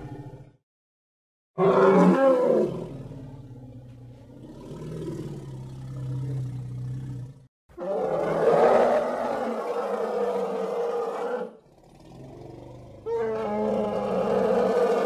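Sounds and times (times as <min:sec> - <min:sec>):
mammoth roar and call: 0:01.6 - 0:15.0.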